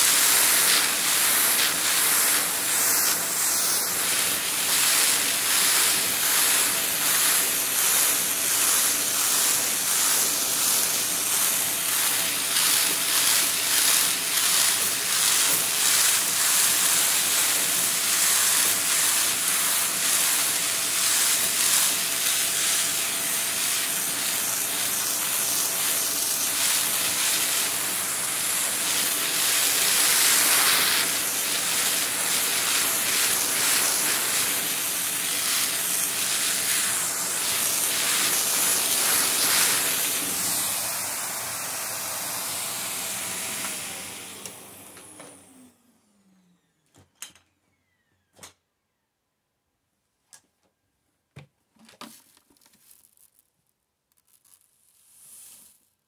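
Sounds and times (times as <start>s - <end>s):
vacuum cleaner running on carpet: 0.0s - 46.9s.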